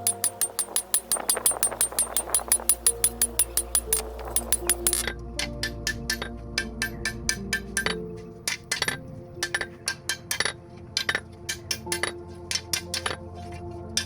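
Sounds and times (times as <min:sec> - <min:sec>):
hammer striking steel anvil: 0:00.0 - 0:13.2
background music: 0:00.0 - 0:14.0.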